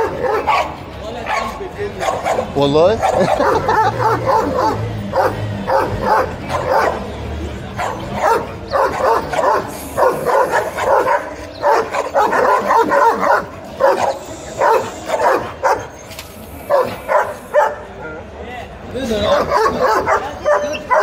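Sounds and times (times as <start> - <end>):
dog barking: 0.0 - 7.1, 7.8 - 15.9, 16.7 - 17.9, 19.3 - 21.0.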